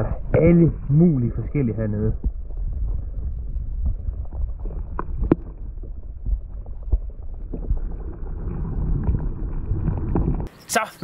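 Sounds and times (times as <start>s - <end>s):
muffled underwater rumble: 0.0s - 10.5s.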